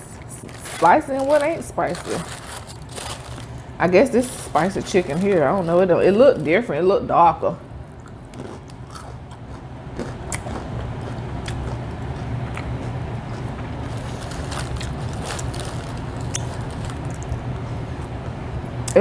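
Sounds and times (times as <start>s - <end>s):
crunchy chewing: 0.0s - 6.7s, 7.6s - 18.4s.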